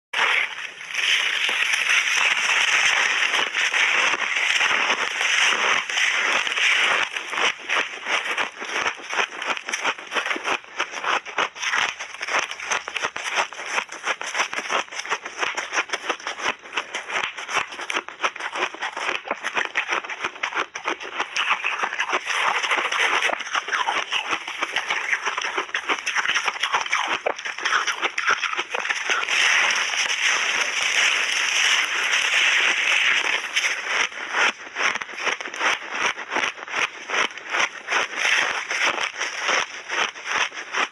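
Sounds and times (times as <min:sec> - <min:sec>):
shaved ice crunching when chewed: 0:00.2 - 0:40.9.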